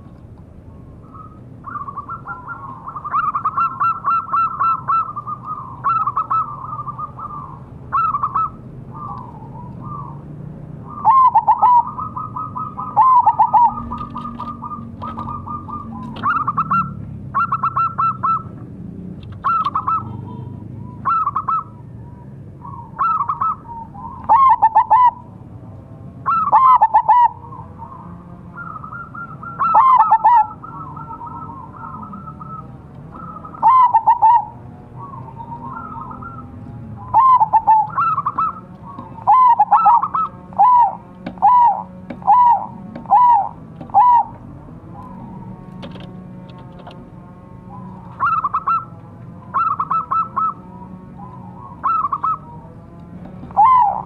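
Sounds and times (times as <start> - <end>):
dove cooing: 1.0 - 25.4, 26.2 - 54.0.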